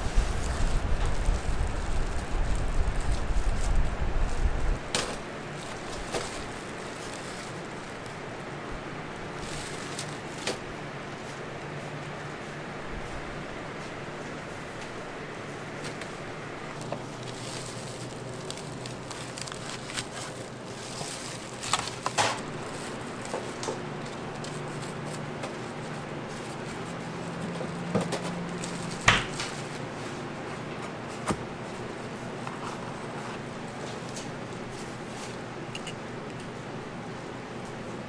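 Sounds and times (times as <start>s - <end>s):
low room hum: 0.0s - 38.0s.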